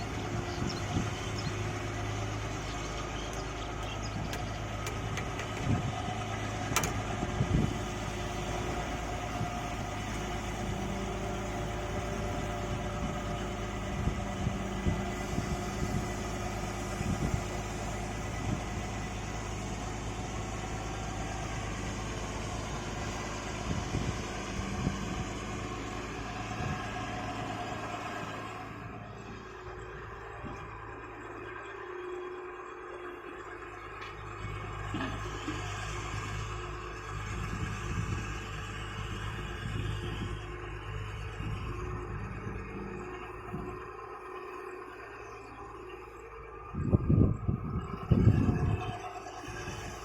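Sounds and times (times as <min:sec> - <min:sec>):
excavator engine running: 0:00.0 - 0:50.0.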